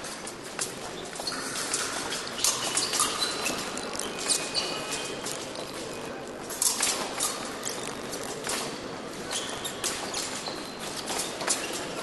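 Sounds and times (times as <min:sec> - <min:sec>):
shoes tapping and squeaking: 0:00.0 - 0:12.0.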